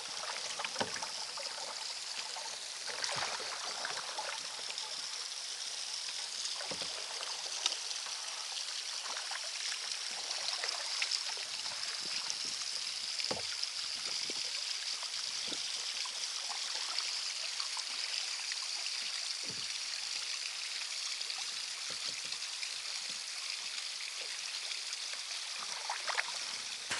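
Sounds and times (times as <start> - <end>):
small water splashes: 0.0 - 26.9
water trickling down rock: 0.0 - 26.9.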